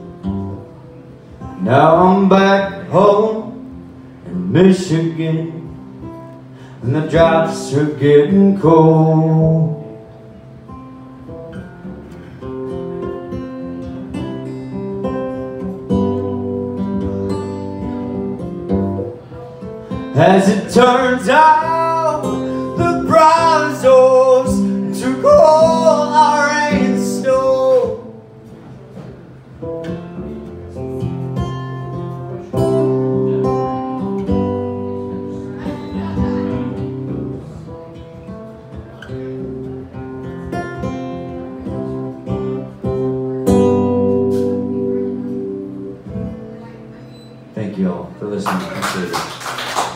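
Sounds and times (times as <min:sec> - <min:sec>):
acoustic guitar playing: 0:00.0 - 0:49.1.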